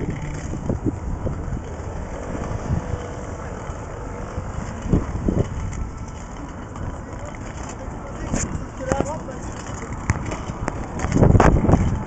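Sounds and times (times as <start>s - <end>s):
roller-skate wheels rumbling on pavement: 0.0s - 12.0s.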